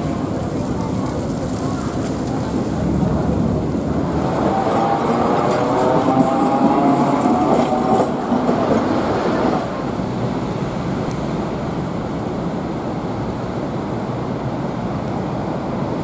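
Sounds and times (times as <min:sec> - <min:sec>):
tram whine: 0:00.0 - 0:13.8
outdoor city noise: 0:00.0 - 0:16.0
tram running on rails: 0:00.0 - 0:16.0.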